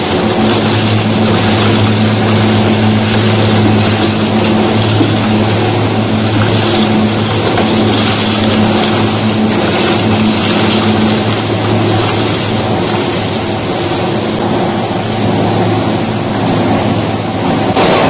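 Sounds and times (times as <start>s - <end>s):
tire shredder grinding rubber: 0.0s - 18.0s.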